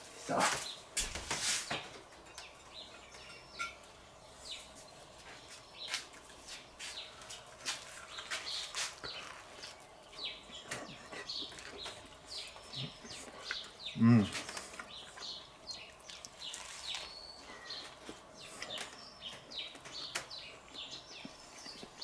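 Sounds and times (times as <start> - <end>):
small birds chirping: 0.1 - 22.0.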